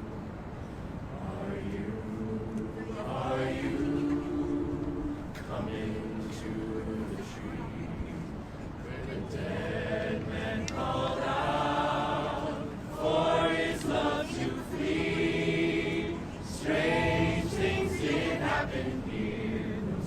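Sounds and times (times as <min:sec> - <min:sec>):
choir singing: 0:01.1 - 0:20.0.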